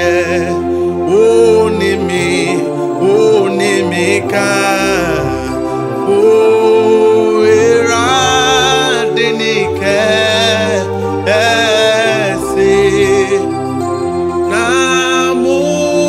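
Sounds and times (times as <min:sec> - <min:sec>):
young man singing: 0:00.0 - 0:13.5, 0:14.5 - 0:16.0
accompaniment chords: 0:00.0 - 0:16.0
low bass notes: 0:00.0 - 0:16.0.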